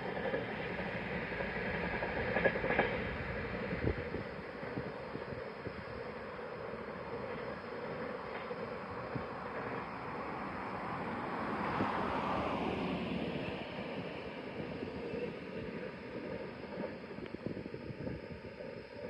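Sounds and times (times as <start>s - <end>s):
freight train wheels on rail: 0.0s - 19.0s.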